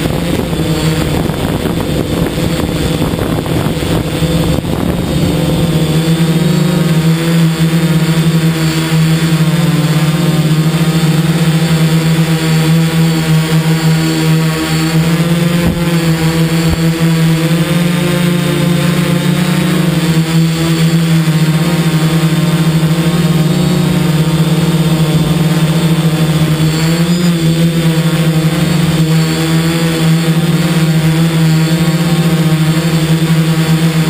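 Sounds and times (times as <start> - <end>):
drone motors humming: 0.0 - 34.0.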